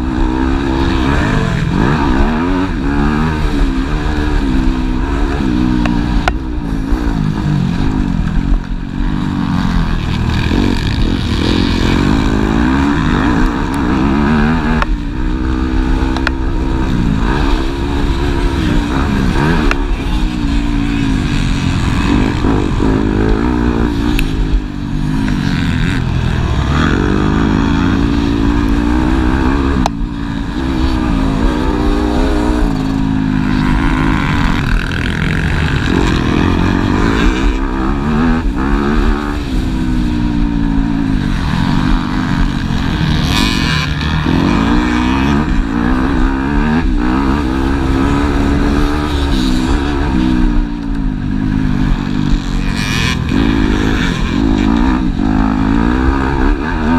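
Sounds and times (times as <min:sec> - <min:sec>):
motocross bikes revving: 0:00.0 - 0:56.9.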